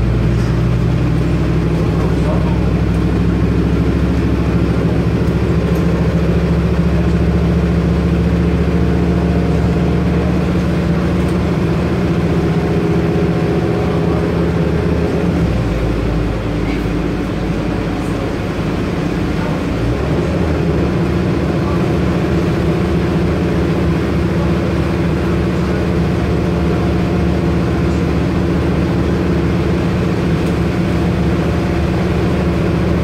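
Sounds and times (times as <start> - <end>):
bus diesel engine humming: 0.0 - 33.0.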